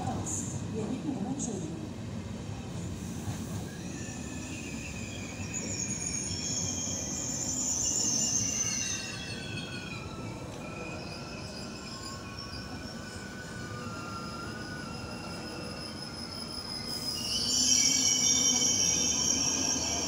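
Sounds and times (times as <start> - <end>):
low train rumble: 0.0 - 20.0
high-pitched train squeal: 2.6 - 20.0.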